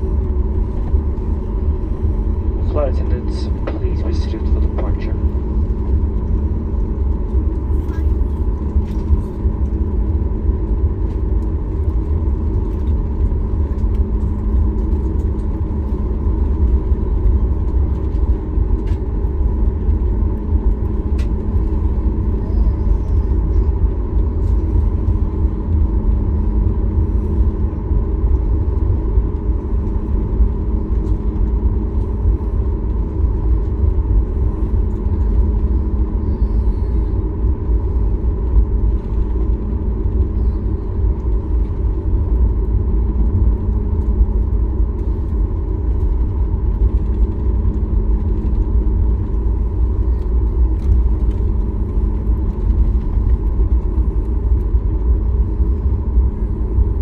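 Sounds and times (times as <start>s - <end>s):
airliner cabin engine drone: 0.0s - 57.0s
faint steady hum: 0.0s - 57.0s.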